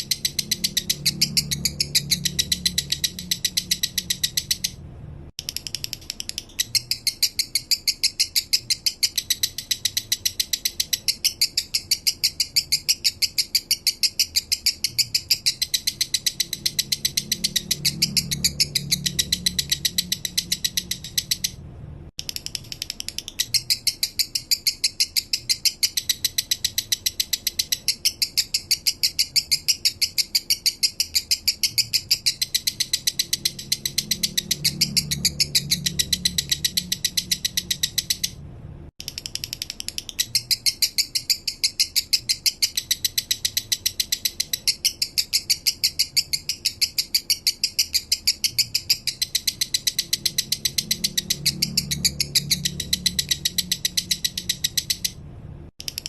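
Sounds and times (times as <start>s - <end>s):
lovebird singing high chirps: 0.0s - 4.8s, 5.4s - 21.6s, 22.2s - 38.4s, 39.0s - 55.2s.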